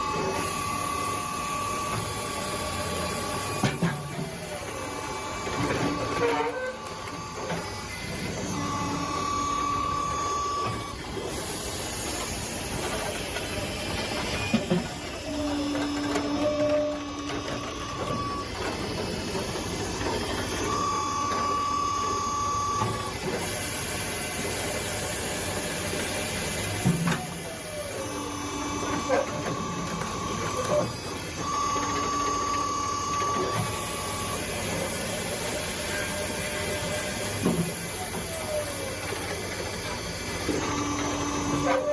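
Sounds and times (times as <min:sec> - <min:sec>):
machine whines: 0:00.0 - 0:41.9
wood-processing machinery running: 0:00.0 - 0:41.9.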